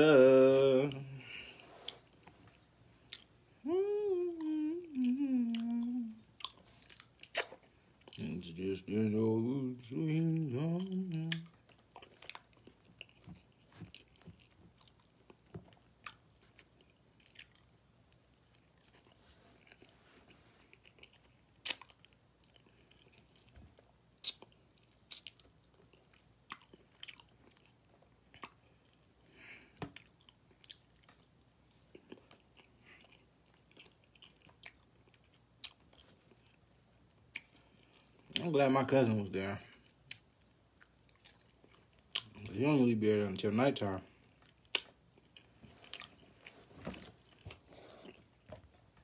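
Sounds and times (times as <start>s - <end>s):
person chewing ribs: 0.5s - 8.9s, 9.8s - 38.6s, 39.6s - 42.6s, 44.1s - 49.0s.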